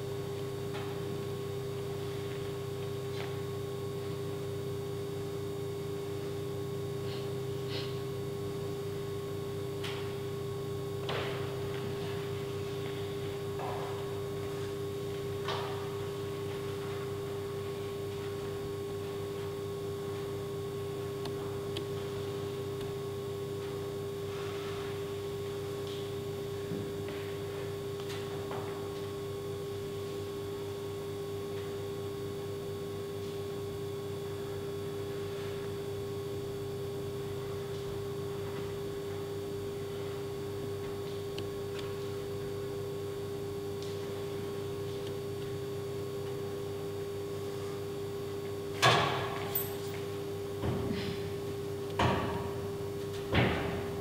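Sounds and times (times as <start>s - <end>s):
steady electrical hum: 0.0s - 54.0s.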